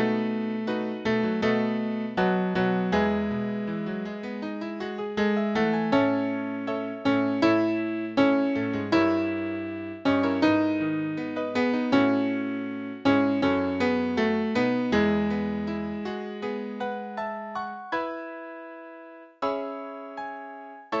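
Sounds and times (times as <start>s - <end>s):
slow piano chords and notes: 0.0s - 21.0s.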